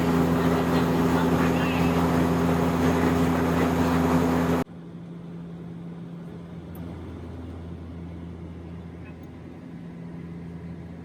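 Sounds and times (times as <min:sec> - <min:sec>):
airliner engine drone: 0:00.0 - 0:11.0.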